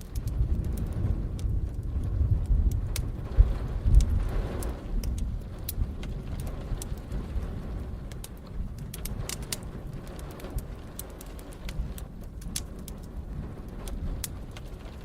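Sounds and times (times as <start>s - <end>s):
low rumble of thunder: 0.0s - 15.0s
steady rain: 0.0s - 15.0s
wood fire crackling and popping: 0.0s - 15.0s.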